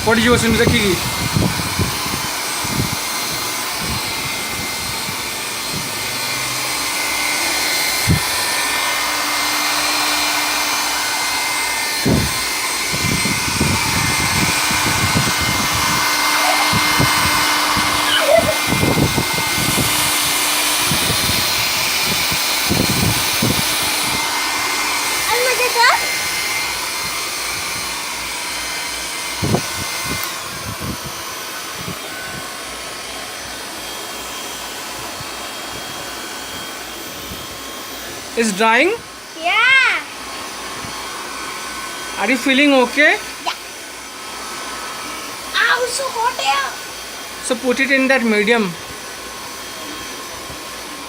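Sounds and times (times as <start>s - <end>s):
hair dryer blowing: 0.0s - 51.0s.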